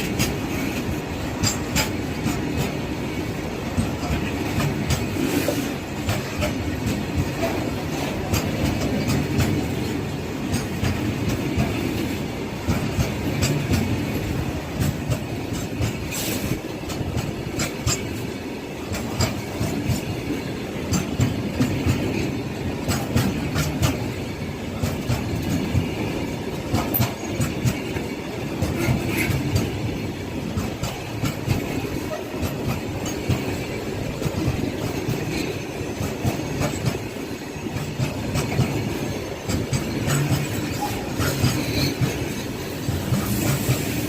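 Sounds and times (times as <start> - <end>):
train wheels rumbling on rail: 0.0 - 44.0
wheels clanking over rail joints: 0.0 - 44.0.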